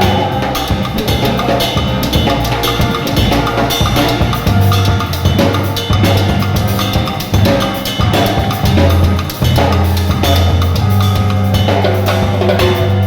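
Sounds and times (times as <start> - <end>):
drum kit beat: 0.0 - 13.0
sustained bass line: 0.0 - 13.0.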